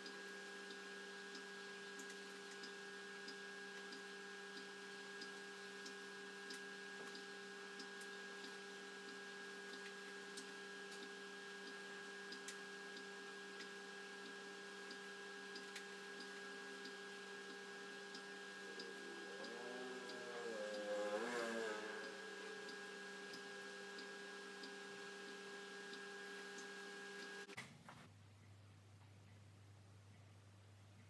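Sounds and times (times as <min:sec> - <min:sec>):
steady electrical hum: 0:00.0 - 0:31.0.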